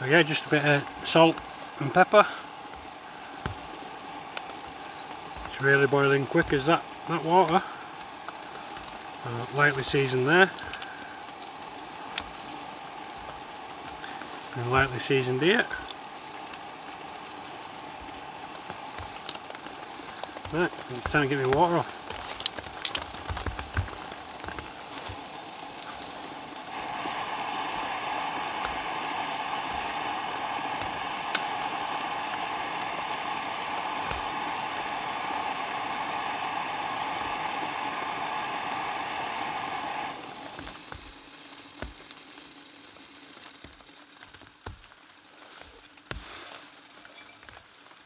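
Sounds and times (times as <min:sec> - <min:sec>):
gas stove hissing: 0:00.0 - 0:48.0.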